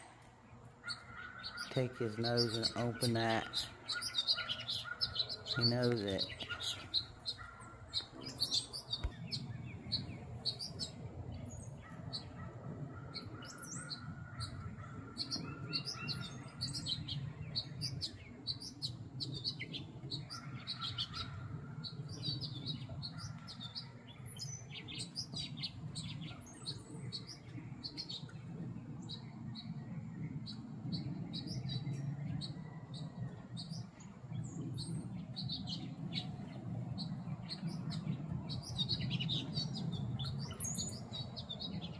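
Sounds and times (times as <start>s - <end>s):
small songbirds chirping: 0.0s - 41.9s
steady low rumble: 0.0s - 41.9s.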